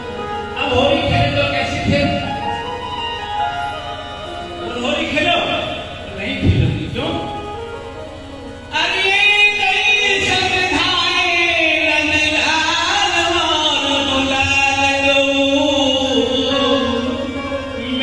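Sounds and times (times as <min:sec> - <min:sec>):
devotional singing with music: 0:00.0 - 0:18.0.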